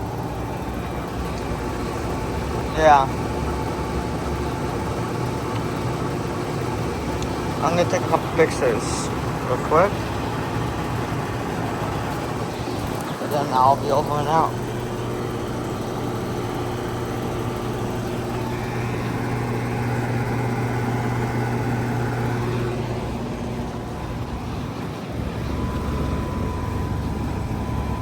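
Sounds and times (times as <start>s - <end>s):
air conditioner compressor and fan hum: 0.0s - 28.0s
deeper hum with faint whine: 0.0s - 28.0s.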